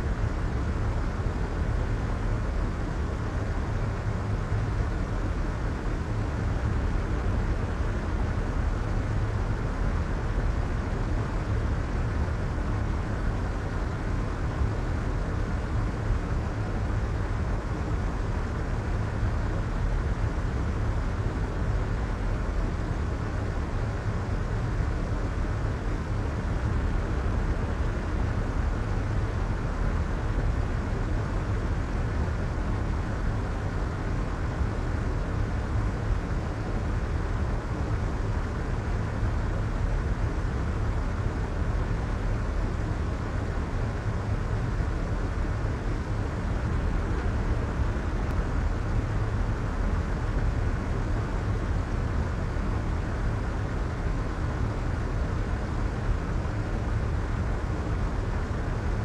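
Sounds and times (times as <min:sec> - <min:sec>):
white noise with low rumble: 0:00.0 - 0:59.0.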